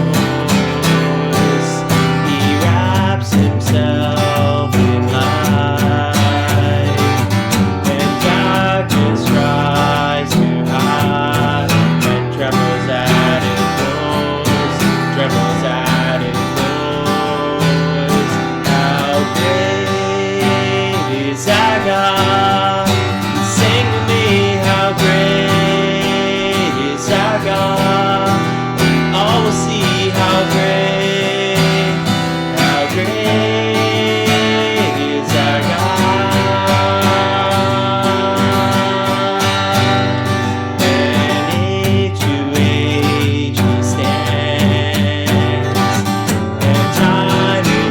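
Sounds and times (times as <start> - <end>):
strummed acoustic guitar music: 0.0 - 47.9.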